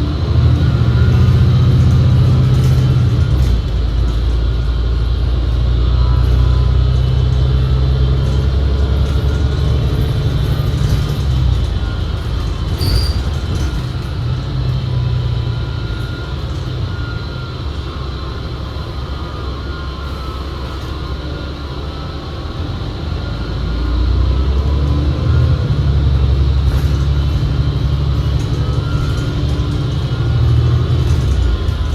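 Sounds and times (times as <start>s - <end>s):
bus drivetrain rumble: 0.0s - 31.9s
high transmission whine: 0.0s - 31.9s.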